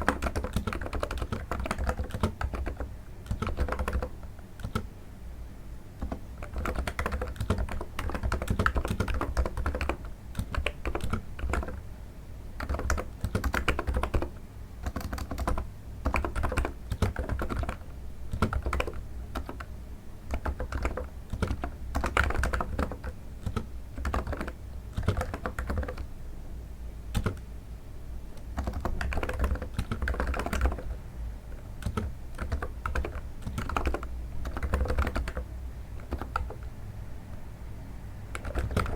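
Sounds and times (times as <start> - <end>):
soft keyboard typing: 0.0 - 4.9, 6.0 - 11.9, 12.6 - 19.7, 20.3 - 26.1, 27.1 - 27.5, 28.3 - 36.7, 38.3 - 38.9.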